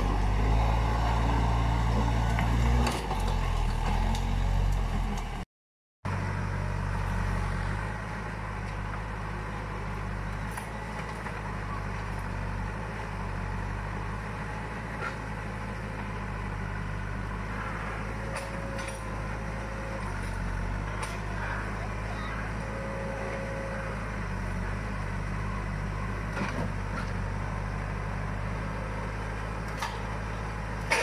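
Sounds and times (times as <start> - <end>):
diesel engine running: 0.0 - 5.4, 6.1 - 31.0.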